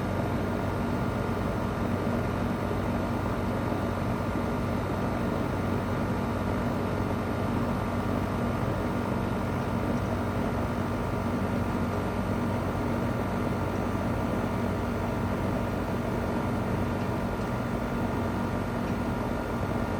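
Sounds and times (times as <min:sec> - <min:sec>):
compressor humming: 0:00.0 - 0:19.9
fan whooshing: 0:00.0 - 0:19.9.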